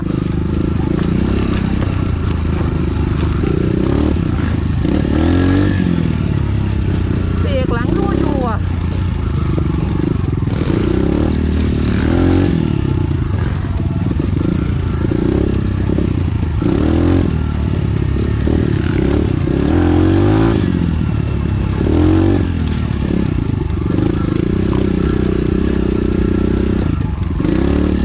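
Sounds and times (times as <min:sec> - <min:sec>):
motorcycle engine revving under load: 0:00.0 - 0:28.0.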